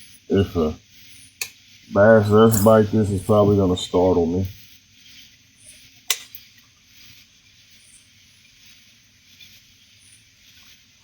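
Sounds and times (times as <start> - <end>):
outdoor night ambience hiss: 0.0 - 11.0.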